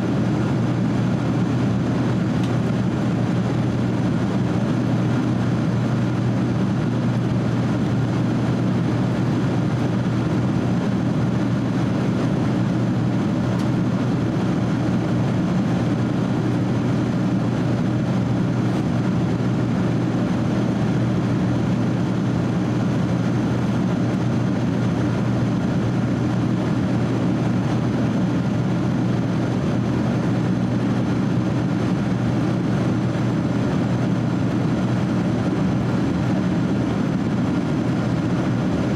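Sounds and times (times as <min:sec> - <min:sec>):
jet engines humming: 0:00.0 - 0:38.9
rushing airflow: 0:00.0 - 0:38.9.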